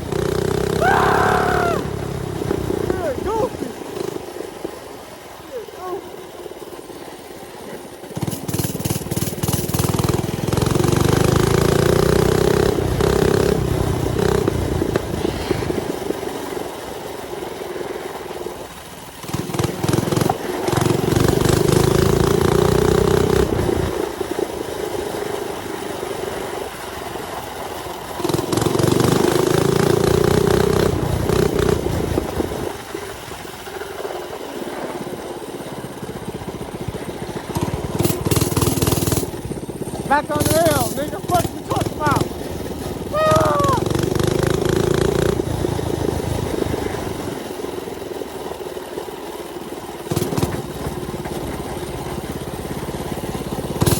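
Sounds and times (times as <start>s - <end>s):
mini bike engine revving: 0.0s - 53.9s.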